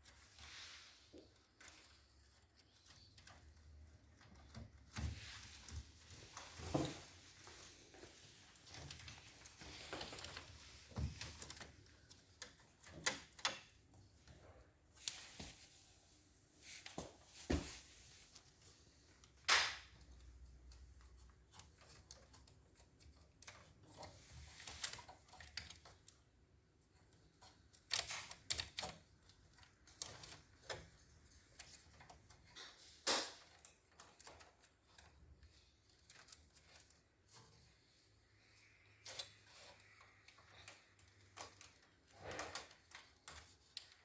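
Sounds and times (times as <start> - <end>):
clicks and knocks of hands working: 1.2 - 15.6, 19.1 - 37.9, 38.5 - 44.0.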